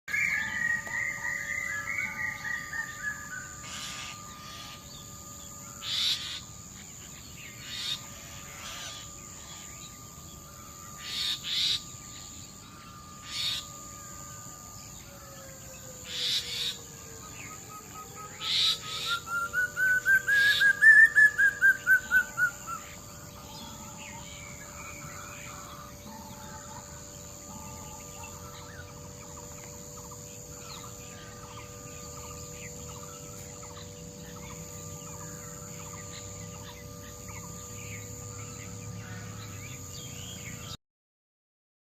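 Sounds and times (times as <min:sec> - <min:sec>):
steady high-pitched tones: 0:00.0 - 0:40.8
bird trill: 0:00.1 - 0:40.8.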